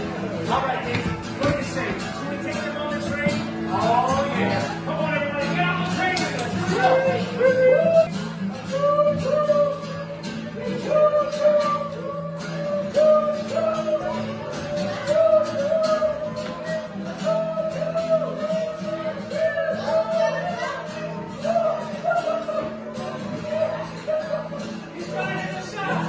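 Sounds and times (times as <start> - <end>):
music with guitar and singing: 0.0 - 26.0.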